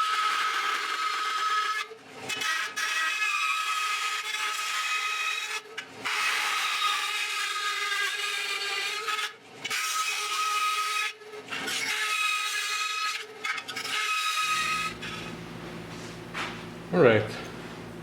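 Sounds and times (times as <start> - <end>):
power tool cutting sheet steel: 0.0 - 15.4.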